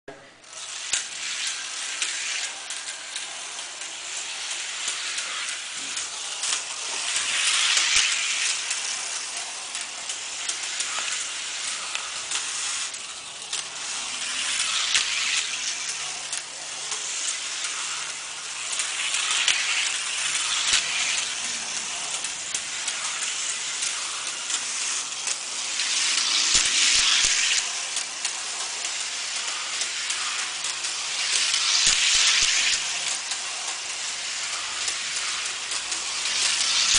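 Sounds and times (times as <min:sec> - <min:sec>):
toy electric motorcycles racing: 0:00.4 - 0:36.9.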